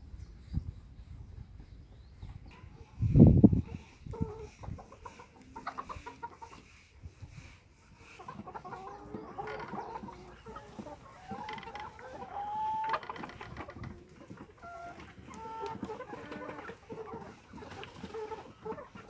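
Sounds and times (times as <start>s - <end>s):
hens clucking: 2.2s - 19.0s.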